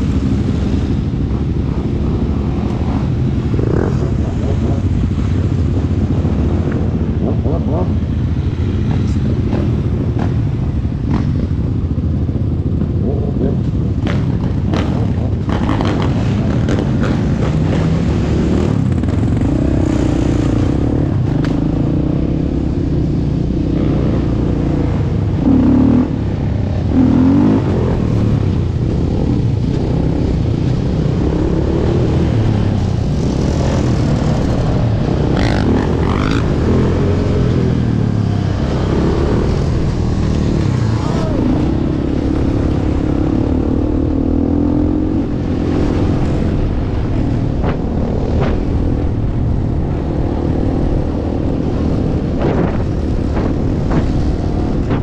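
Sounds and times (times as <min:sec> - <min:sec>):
atv engine revving: 0:00.0 - 0:55.0
dirt bikes and quads riding: 0:00.0 - 0:55.0.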